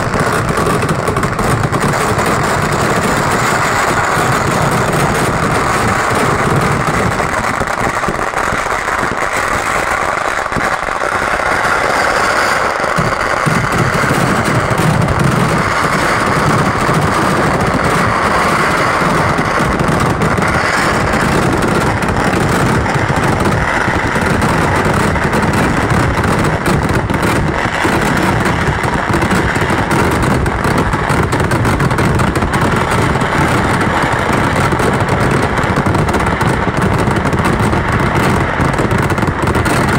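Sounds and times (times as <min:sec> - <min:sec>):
firecrackers crackling rumble: 0:00.0 - 0:39.9.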